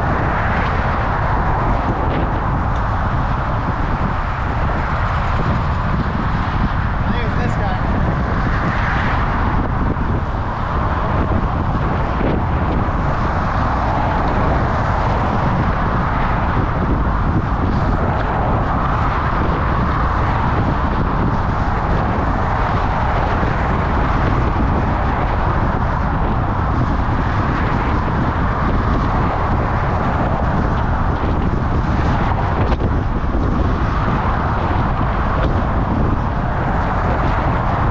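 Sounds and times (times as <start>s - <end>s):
wind and road noise cycling: 0.0s - 37.9s.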